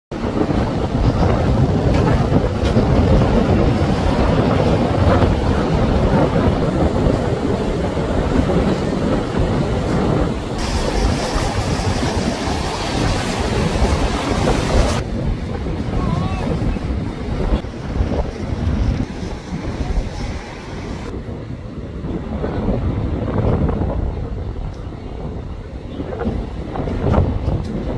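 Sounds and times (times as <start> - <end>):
ocean surf breaking: 0.1 - 24.0
wind buffeting microphone: 0.1 - 27.9.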